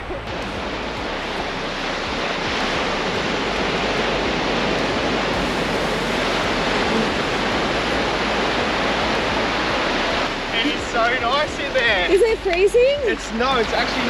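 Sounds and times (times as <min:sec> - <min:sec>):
small waves breaking on beach: 0:00.1 - 0:12.3, 0:13.0 - 0:14.0.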